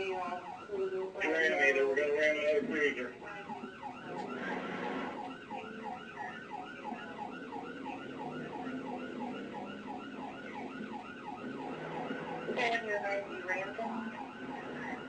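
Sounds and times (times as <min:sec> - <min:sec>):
police siren yelping: 0:00.0 - 0:15.0
car engine and road noise: 0:00.1 - 0:15.0.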